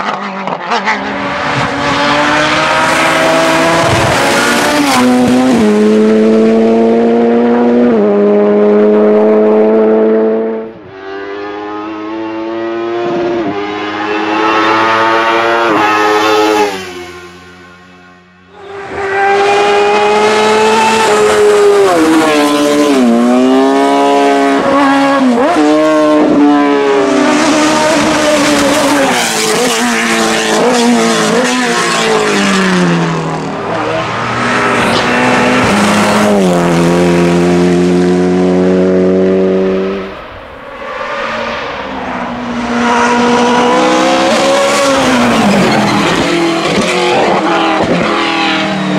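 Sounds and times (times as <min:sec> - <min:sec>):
race car engine at full throttle: 0:00.0 - 0:48.9.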